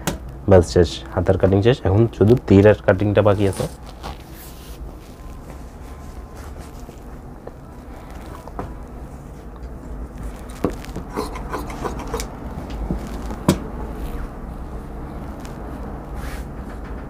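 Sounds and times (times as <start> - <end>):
low hum: 2.4 - 17.0
fabric rustling: 3.1 - 16.8.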